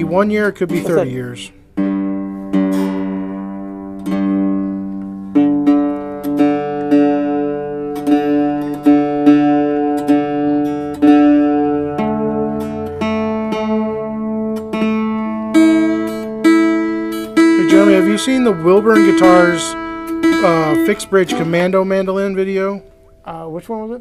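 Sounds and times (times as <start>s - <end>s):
mandolin strings plucked: 0.0s - 23.4s.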